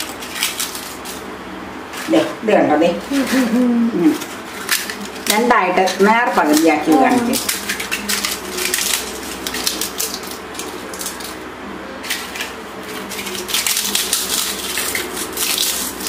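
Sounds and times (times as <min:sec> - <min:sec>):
fried crisps crackling in a pan: 0:00.0 - 0:01.3, 0:03.1 - 0:16.0.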